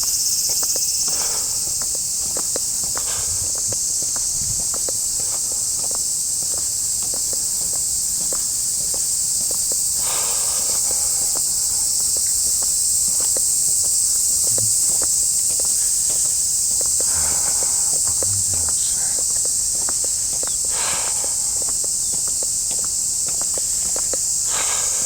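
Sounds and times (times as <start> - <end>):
cicada chorus buzzing: 0.0 - 25.0
footsteps on path: 0.0 - 25.0.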